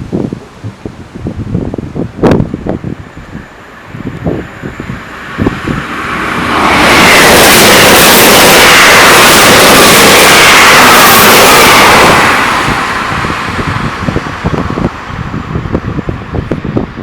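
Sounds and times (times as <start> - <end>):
wind buffeting microphone: 0.0 - 17.0
train passing at speed: 1.6 - 17.0.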